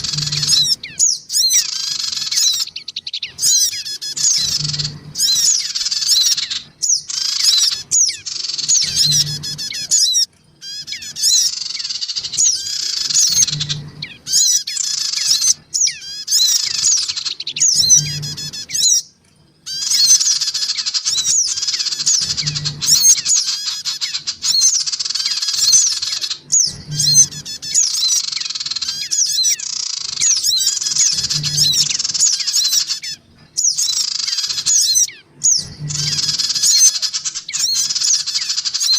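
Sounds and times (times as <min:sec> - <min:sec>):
birds twittering: 0:00.0 - 0:38.9.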